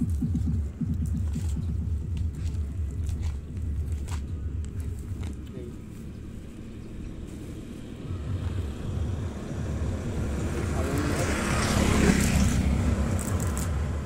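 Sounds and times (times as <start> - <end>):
motor vehicle passing: 0.0 - 14.0.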